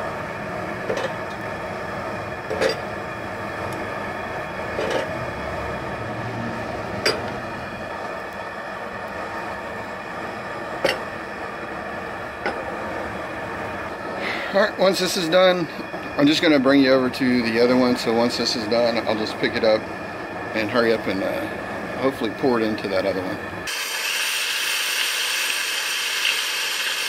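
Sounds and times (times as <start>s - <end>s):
propane burner running: 0.0s - 27.0s.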